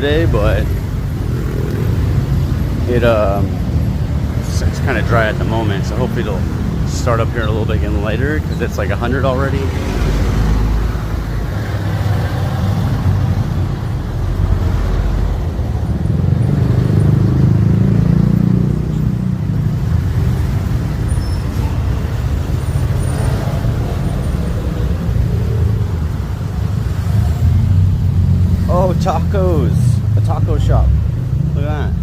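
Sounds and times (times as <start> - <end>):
vehicles passing close by: 0.0 - 32.0.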